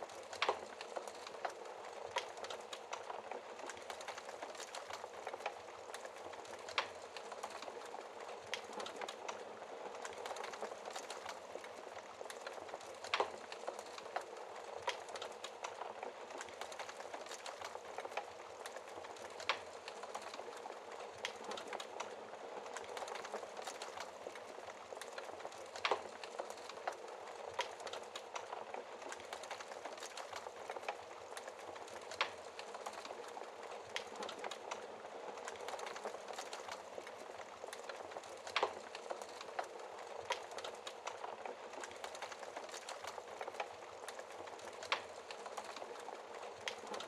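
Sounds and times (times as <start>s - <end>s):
fire hissing and crackling: 0.0s - 47.0s.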